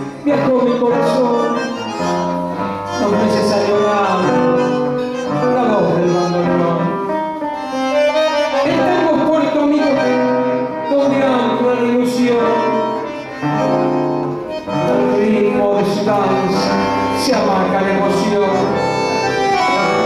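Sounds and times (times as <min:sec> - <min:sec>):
instrumental tango accompaniment: 0:00.0 - 0:20.0.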